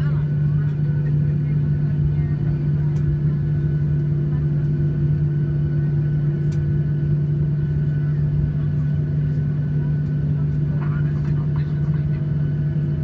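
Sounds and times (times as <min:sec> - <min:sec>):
aircraft cabin engine drone: 0:00.0 - 0:13.0
low taxiway rumble: 0:00.0 - 0:13.0.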